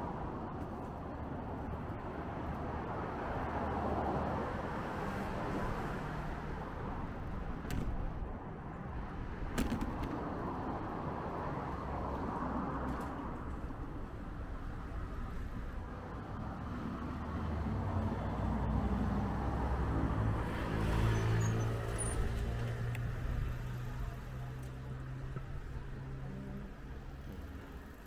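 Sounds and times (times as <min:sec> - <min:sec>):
street traffic rumbling: 0:00.0 - 0:28.0.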